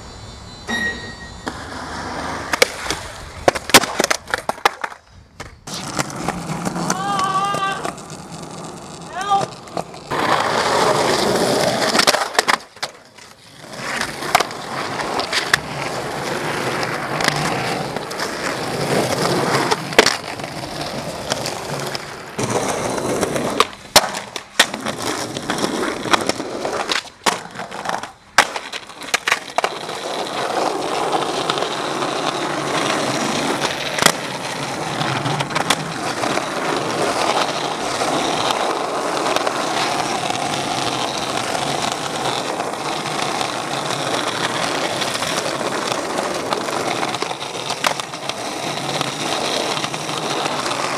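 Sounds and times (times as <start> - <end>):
skateboard wheels rolling on pavement: 0.0 - 50.9
skateboard clacks: 1.4 - 50.9.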